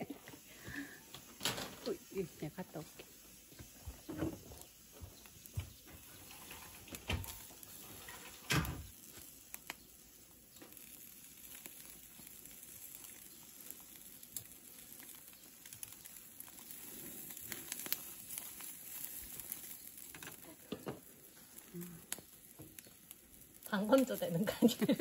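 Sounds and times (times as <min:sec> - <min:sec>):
fish grilling over charcoal: 0:00.0 - 0:25.0.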